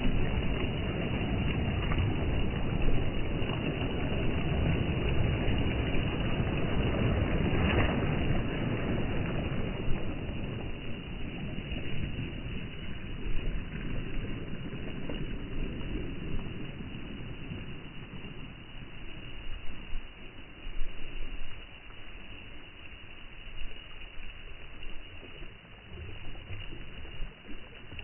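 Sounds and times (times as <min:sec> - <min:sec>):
small waves breaking on shore: 0:00.0 - 0:28.0.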